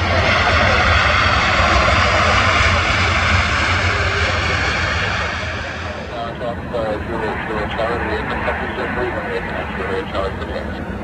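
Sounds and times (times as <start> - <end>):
jet engines in reverse thrust: 0.0 - 11.0.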